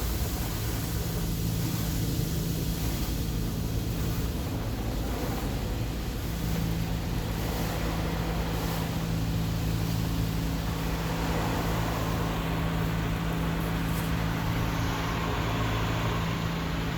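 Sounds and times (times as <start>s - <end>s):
car wash machinery hum: 0.0s - 16.9s
rushing water noise: 0.0s - 16.9s.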